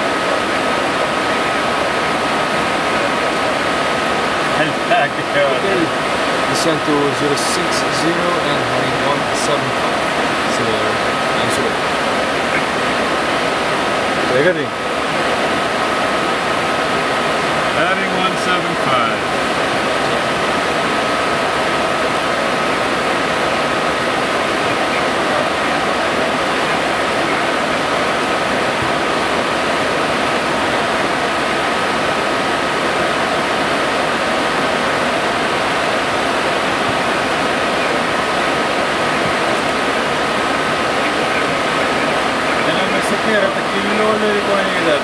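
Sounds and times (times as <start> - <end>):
rushing airflow in cockpit: 0.0 - 45.0
steady high whine: 0.0 - 45.0.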